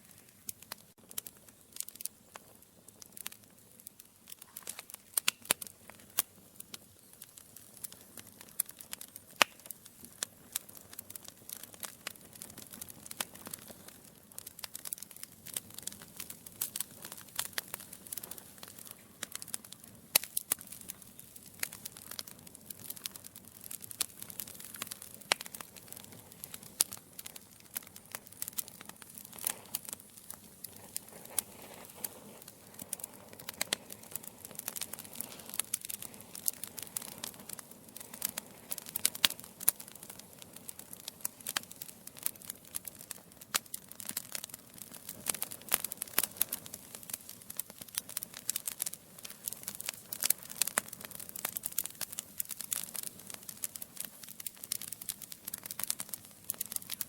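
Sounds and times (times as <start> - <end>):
faint steady hiss: 0.0 - 57.0
wood fire crackling and popping: 0.0 - 57.0.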